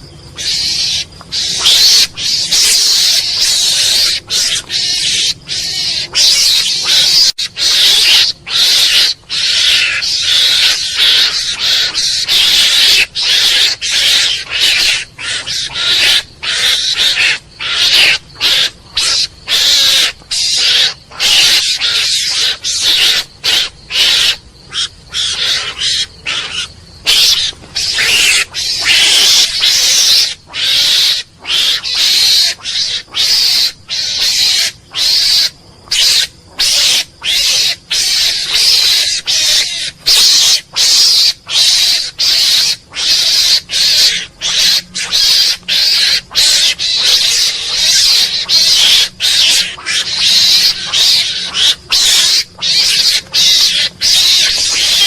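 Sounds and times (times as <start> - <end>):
mongoose hissing calls: 0.0 - 55.0.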